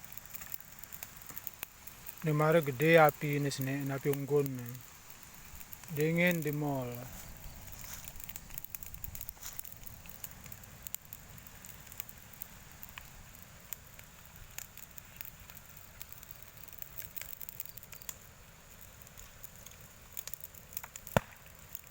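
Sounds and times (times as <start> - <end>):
bonfire crackling: 0.0 - 21.9.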